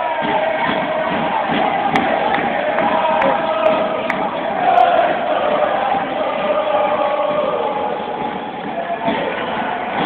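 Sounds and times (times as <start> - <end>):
arena crowd din: 0.0 - 10.0
fans chanting in unison: 0.0 - 10.0.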